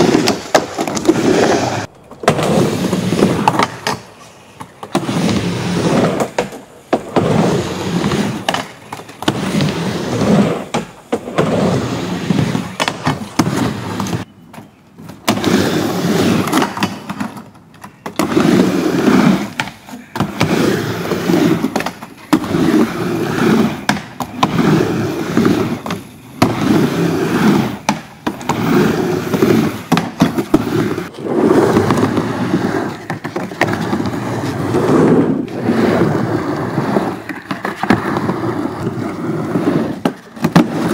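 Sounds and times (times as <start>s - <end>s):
skateboard wheels rumbling on wood: 0.0s - 14.3s, 15.0s - 40.9s.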